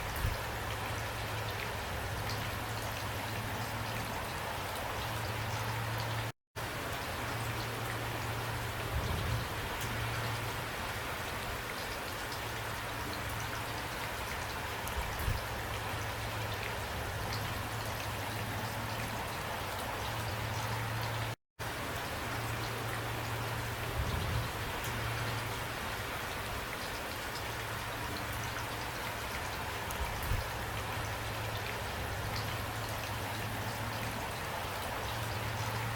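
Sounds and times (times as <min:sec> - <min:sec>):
raindrops ticking on a surface: 0:00.0 - 0:35.9
steady rain: 0:00.0 - 0:35.9.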